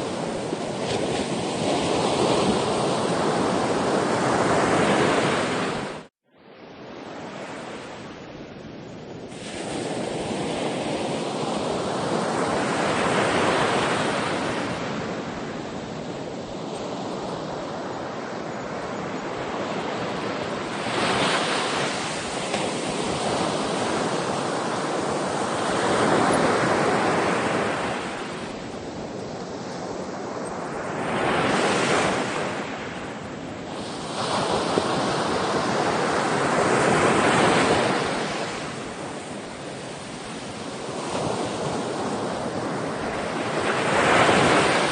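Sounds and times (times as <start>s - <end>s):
sea waves washing in and out: 0.0s - 44.9s.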